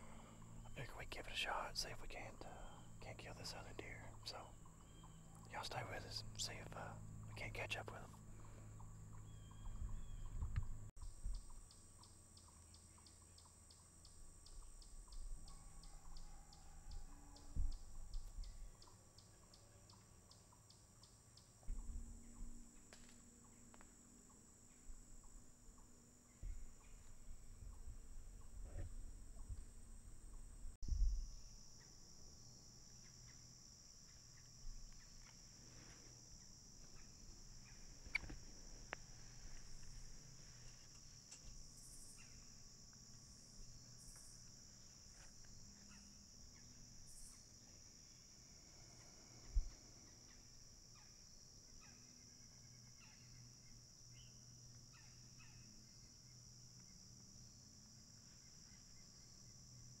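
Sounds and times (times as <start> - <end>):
insects chirping: 0.0 - 60.0.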